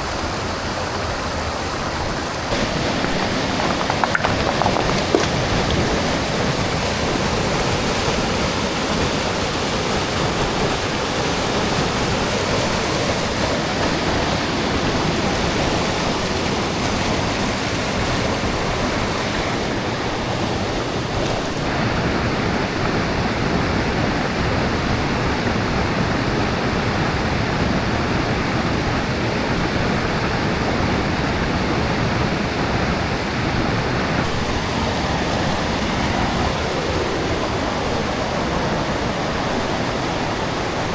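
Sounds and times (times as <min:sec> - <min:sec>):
rushing white water: 0:00.0 - 0:40.9.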